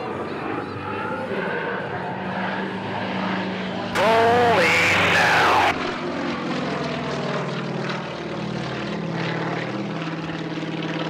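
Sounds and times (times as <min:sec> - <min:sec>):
plane engines droning overhead: 0:00.0 - 0:11.0.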